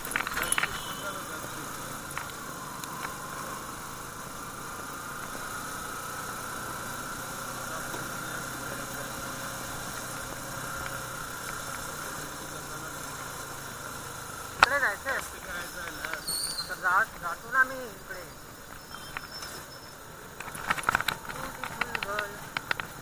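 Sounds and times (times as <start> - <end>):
motorcycle engine running: 0.0 - 23.0
tyres hissing on wet road: 0.0 - 23.0.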